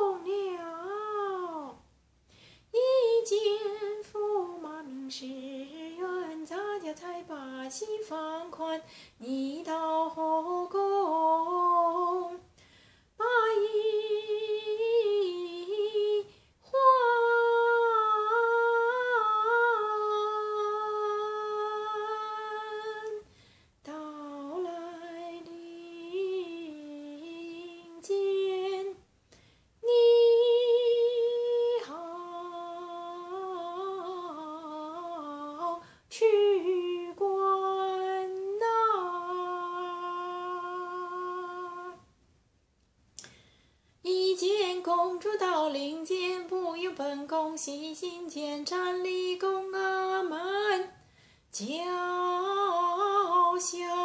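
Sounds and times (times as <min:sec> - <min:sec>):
woman singing opera unaccompanied: 0:00.0 - 0:01.9, 0:02.7 - 0:29.1, 0:29.8 - 0:42.2, 0:44.0 - 0:54.0.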